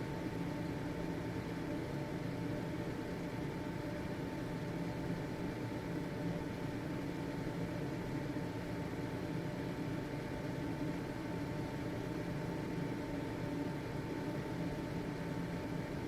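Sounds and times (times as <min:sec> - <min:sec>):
ventilation fan whooshing: 0:00.0 - 0:16.0.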